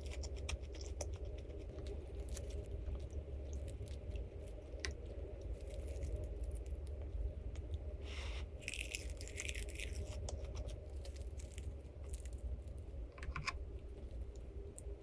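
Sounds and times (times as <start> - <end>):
crinkling and clicking handling noise: 0.0 - 7.9, 8.7 - 15.0
low steady hum: 0.0 - 15.0.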